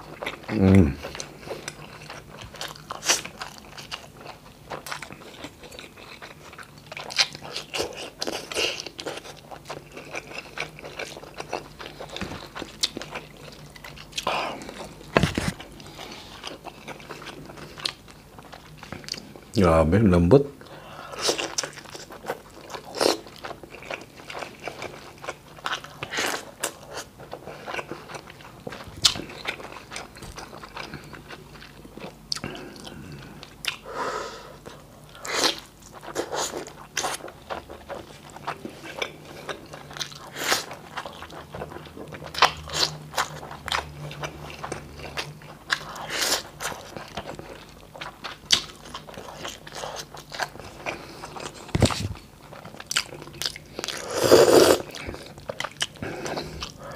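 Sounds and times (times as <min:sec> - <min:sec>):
chewing and lip smacking: 0:00.0 - 0:19.4, 0:21.1 - 0:33.8, 0:34.6 - 0:54.1, 0:54.8 - 0:56.9.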